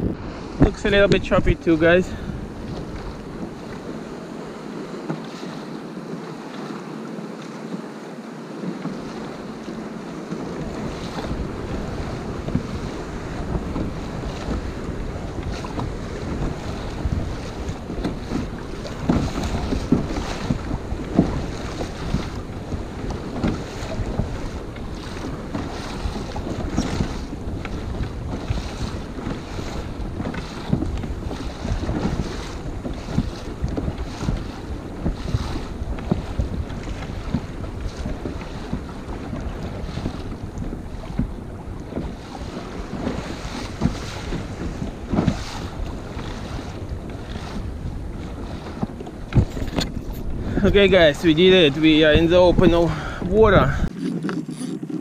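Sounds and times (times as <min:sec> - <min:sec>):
wind buffeting microphone: 0:00.0 - 0:06.5, 0:08.6 - 0:55.0
water slapping against kayak hull: 0:00.0 - 0:55.0.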